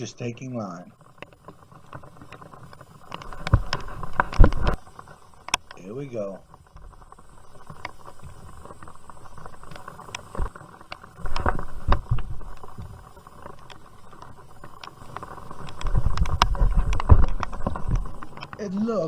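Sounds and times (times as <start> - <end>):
raindrops ticking on plastic: 0.0 - 19.0
steady hiss: 0.0 - 19.0.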